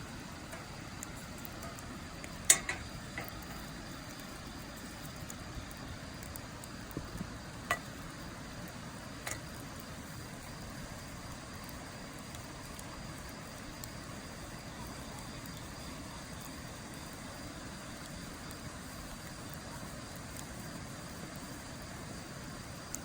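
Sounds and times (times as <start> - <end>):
campfire crackling: 0.0 - 23.0
sharp pops of burning wood: 0.0 - 23.0.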